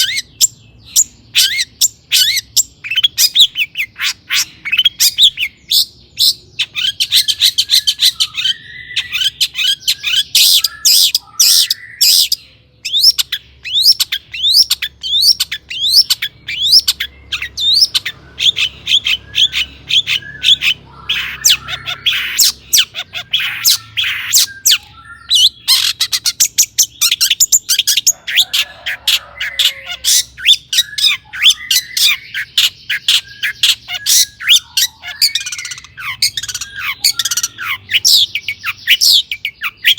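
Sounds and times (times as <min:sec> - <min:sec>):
bird singing chirps and whistles: 0:00.0 - 0:28.4, 0:29.1 - 0:39.9
harsh rasping bird calls: 0:00.0 - 0:39.9.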